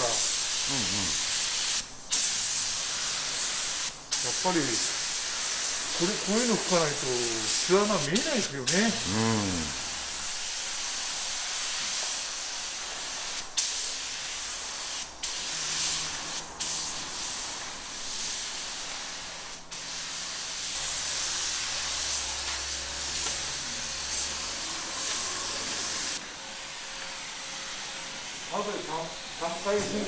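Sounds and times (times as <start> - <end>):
spray gun hissing: 0.0 - 30.0.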